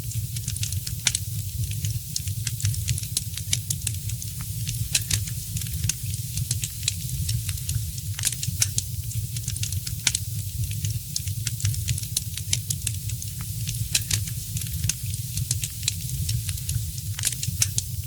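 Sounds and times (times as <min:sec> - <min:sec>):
wood fire crackling: 0:00.2 - 0:18.0.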